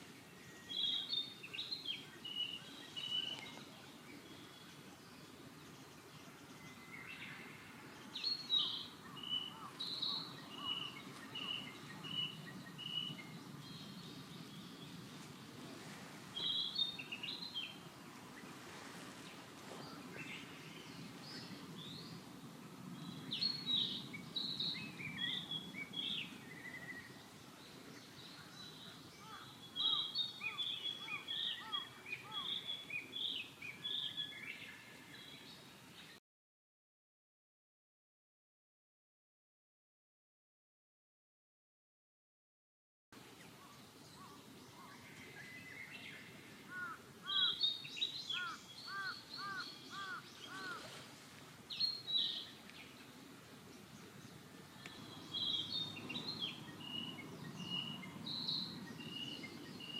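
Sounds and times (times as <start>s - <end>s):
small birds chirping: 0.0s - 36.2s, 43.2s - 59.9s
steady low background noise: 0.0s - 36.2s, 43.2s - 59.9s.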